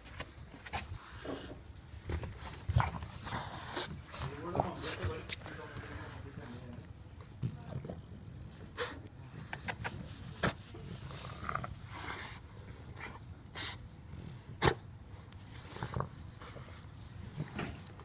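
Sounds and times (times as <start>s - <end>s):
dogs sniffing and snorting: 0.0s - 18.0s.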